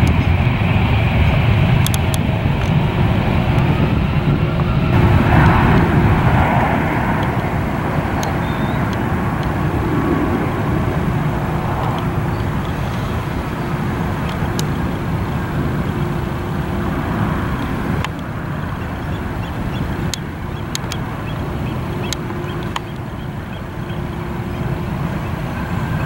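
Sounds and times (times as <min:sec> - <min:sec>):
jet engine rumble: 0:00.0 - 0:26.0.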